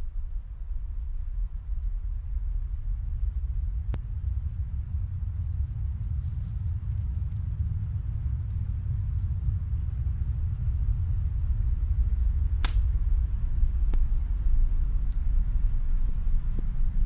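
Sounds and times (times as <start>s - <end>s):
low fire rumble: 0.0s - 17.0s
log fire crackling: 0.6s - 16.3s.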